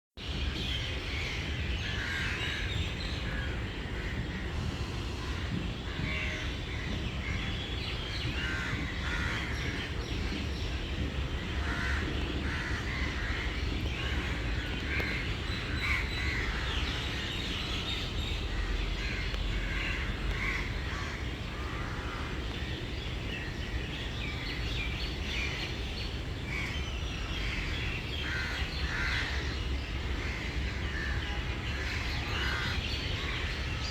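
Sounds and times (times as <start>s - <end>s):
birds calling: 5.2s - 33.9s.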